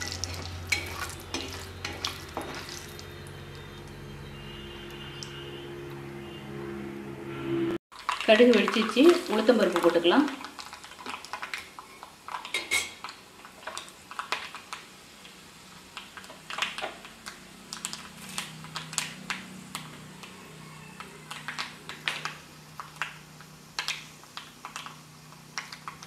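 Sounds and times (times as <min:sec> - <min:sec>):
seeds spluttering in hot oil: 0:00.0 - 0:04.2, 0:07.9 - 0:26.0.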